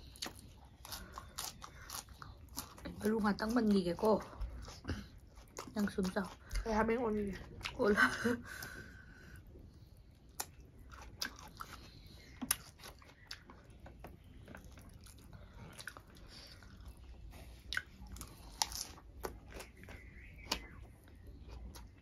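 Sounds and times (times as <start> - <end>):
people chewing crunchy food: 0.0 - 22.0.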